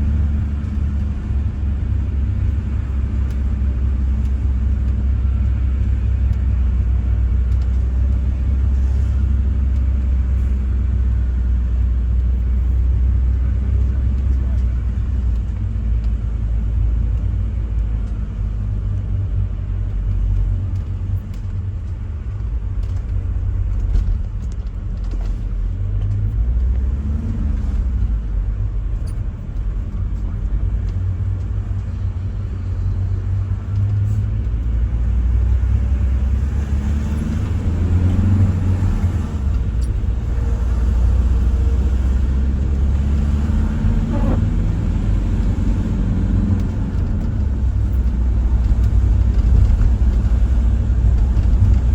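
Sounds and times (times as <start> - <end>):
motor vehicle engine running: 0.0 - 51.9.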